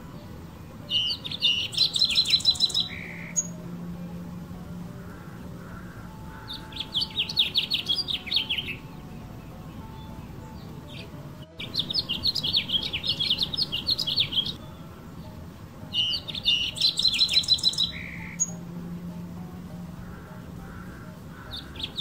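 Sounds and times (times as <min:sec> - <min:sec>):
finch singing: 0:00.0 - 0:22.0.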